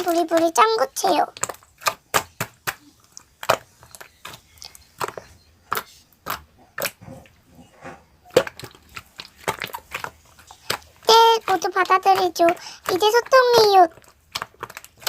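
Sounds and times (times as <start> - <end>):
slime clicking and snapping: 0.0 - 7.0, 8.3 - 15.0.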